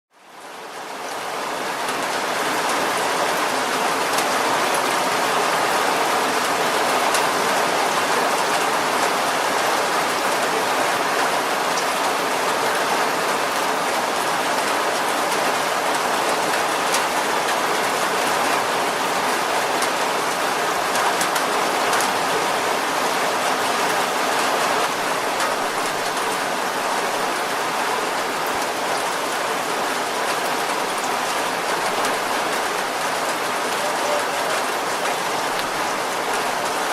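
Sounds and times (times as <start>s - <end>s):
rain drumming on car roof: 0.3s - 36.9s.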